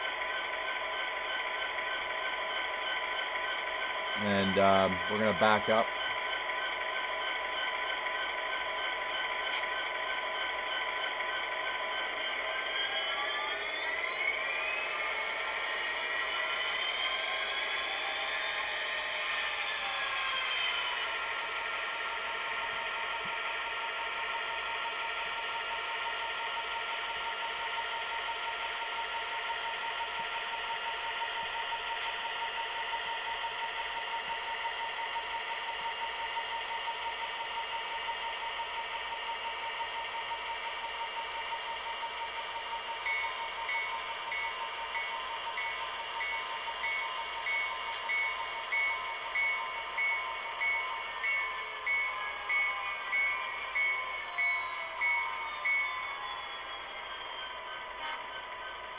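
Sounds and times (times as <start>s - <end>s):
locomotive bell ringing: 0.0s - 19.6s, 20.3s - 58.9s.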